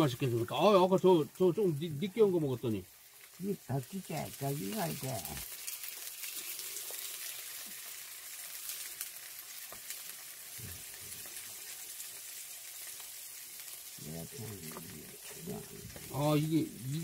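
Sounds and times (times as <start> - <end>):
tofu sizzling in oil: 0.0 - 17.0.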